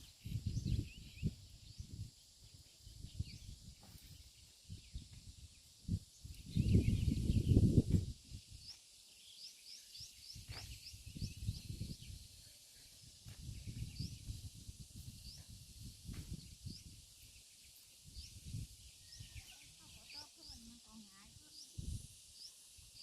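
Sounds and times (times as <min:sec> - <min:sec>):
wind rumble on microphone: 0:00.0 - 0:08.7, 0:10.1 - 0:17.4, 0:18.0 - 0:23.0
small bird chirping: 0:00.0 - 0:23.0.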